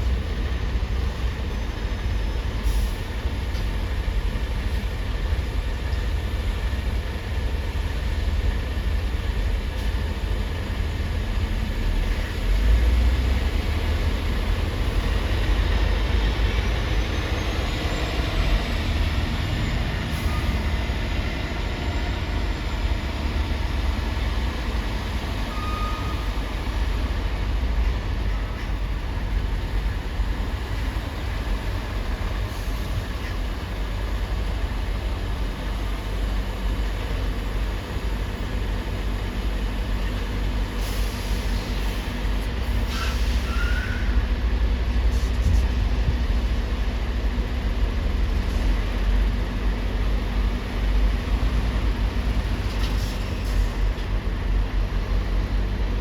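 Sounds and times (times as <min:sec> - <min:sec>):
heavy trucks running: 0:00.0 - 0:56.0.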